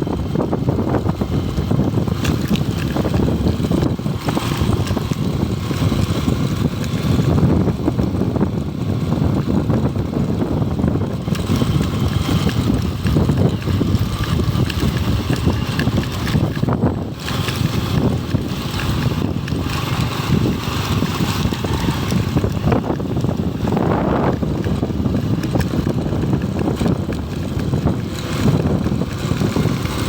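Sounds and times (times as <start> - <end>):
motorcycle engine rumble: 0.0 - 30.0
wind buffeting microphone: 0.0 - 30.0.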